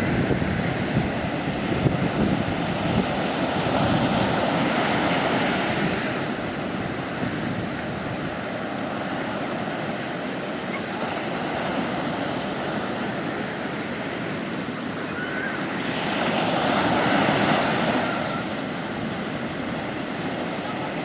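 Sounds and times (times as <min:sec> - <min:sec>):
sea waves on a beach: 0:00.0 - 0:21.0.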